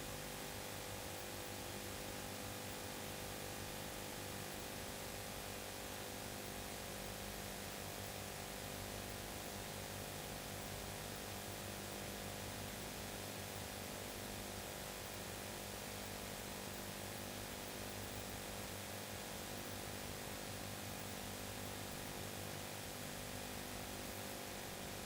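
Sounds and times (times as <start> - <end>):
low mains hum: 0.0 - 25.0
tape hiss: 0.0 - 25.0.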